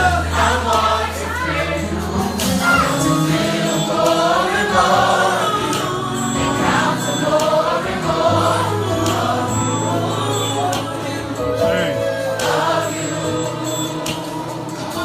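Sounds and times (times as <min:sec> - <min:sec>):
band accompaniment: 0:00.0 - 0:15.0
gospel choir singing: 0:00.0 - 0:15.0.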